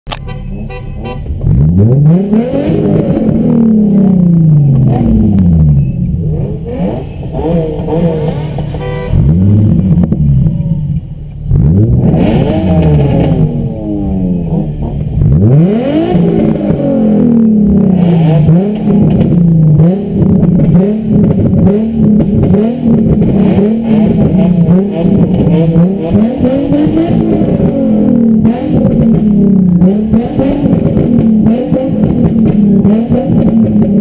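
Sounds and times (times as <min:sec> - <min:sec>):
car engines revving: 0:00.1 - 0:34.0.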